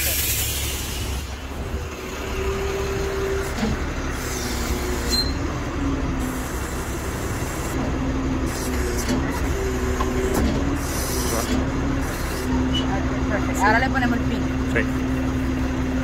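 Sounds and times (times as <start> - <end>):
hydraulic whine: 0.0 - 16.0
truck engine rumbling: 0.0 - 16.0.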